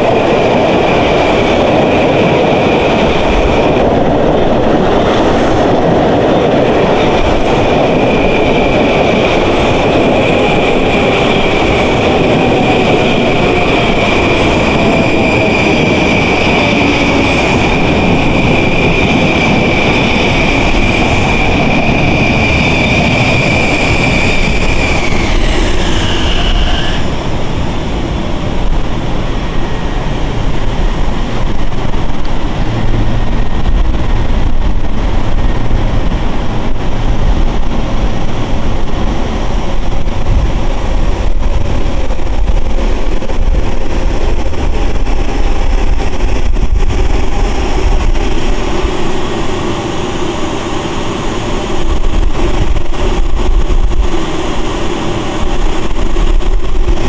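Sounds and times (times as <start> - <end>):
train electric whine: 0.0 - 57.0
train wheels rumbling on rails: 0.0 - 57.0.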